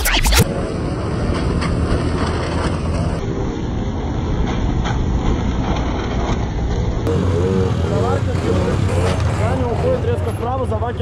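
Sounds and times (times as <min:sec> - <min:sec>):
road and wind noise: 0:00.0 - 0:11.0
motorcycle and moped engines: 0:00.4 - 0:11.0.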